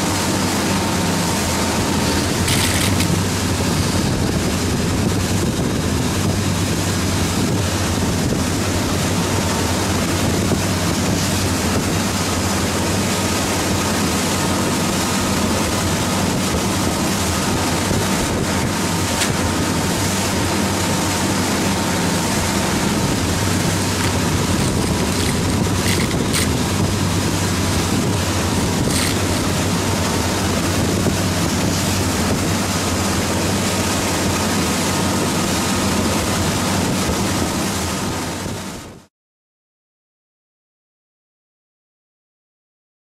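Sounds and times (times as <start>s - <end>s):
speedboat engine drone: 0.0s - 39.0s
wind buffeting microphone: 0.0s - 39.0s
churning wake water: 0.0s - 39.1s.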